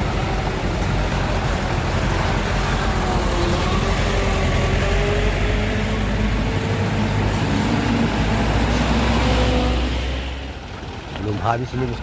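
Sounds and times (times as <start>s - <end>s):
heavy truck engine rumbling: 0.0s - 12.0s.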